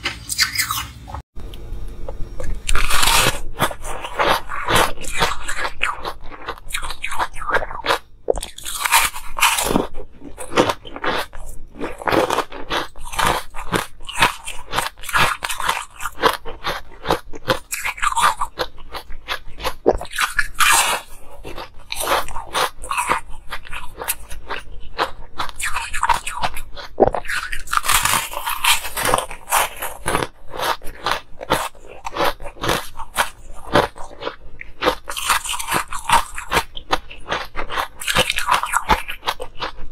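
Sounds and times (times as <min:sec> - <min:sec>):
ice crunching between teeth: 0:02.4 - 0:39.9.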